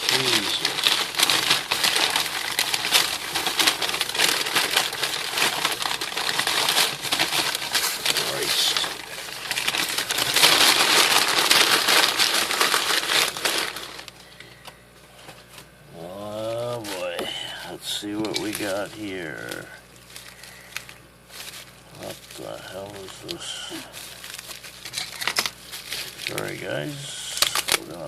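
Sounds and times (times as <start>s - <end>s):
packaging crinkling and tearing: 0.0s - 14.4s, 17.8s - 28.0s.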